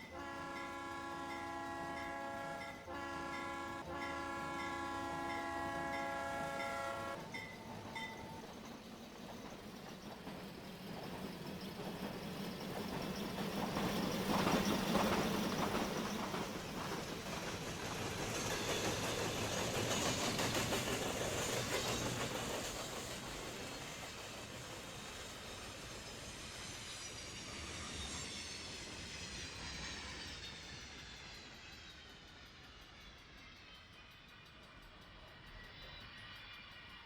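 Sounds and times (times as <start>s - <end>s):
steam train rolling past: 0.0s - 37.0s.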